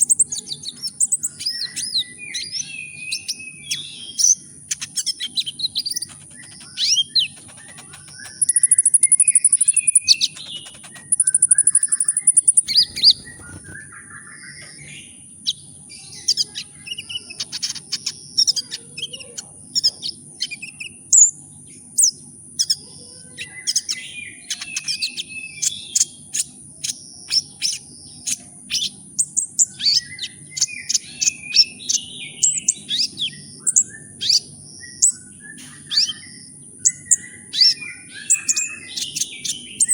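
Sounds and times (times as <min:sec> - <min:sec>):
bird trills: 0:00.0 - 0:14.8, 0:22.0 - 0:39.9
faint low hum: 0:00.0 - 0:39.9
sunbird chirping: 0:00.0 - 0:39.9.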